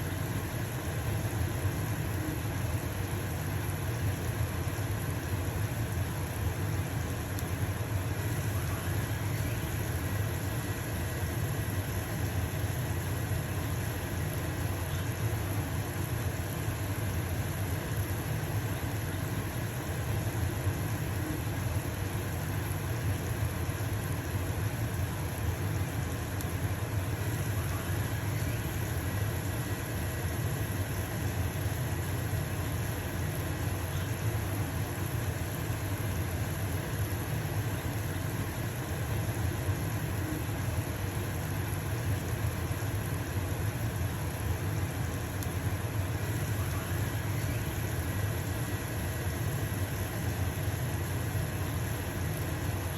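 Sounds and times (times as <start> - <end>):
stove fan humming: 0.0 - 52.9.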